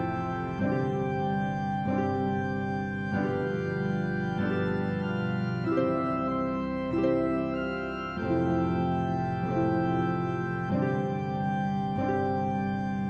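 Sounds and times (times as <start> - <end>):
slow organ chords: 0.0 - 13.0.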